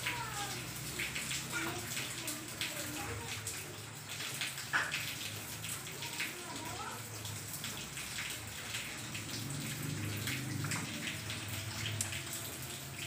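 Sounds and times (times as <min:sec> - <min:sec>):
running water: 0:00.0 - 0:13.0
steady rain: 0:00.0 - 0:13.0.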